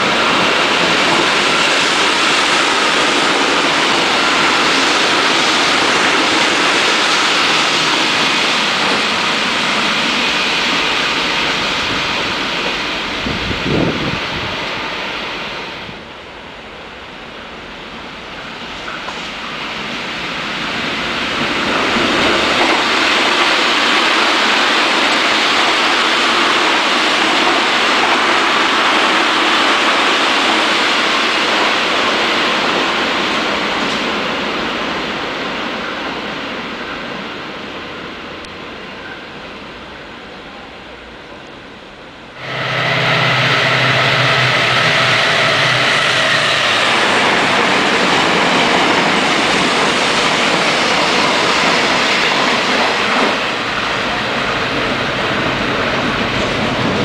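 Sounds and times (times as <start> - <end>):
approaching train with low hum: 0.0 - 57.0
electric train passing: 0.0 - 57.0.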